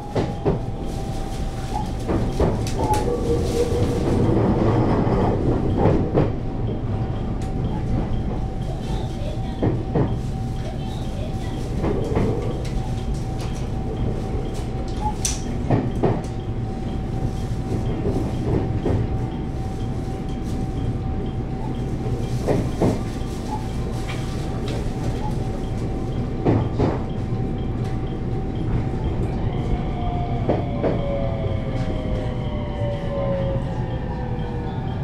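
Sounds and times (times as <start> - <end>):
train rumble: 0.0 - 35.0.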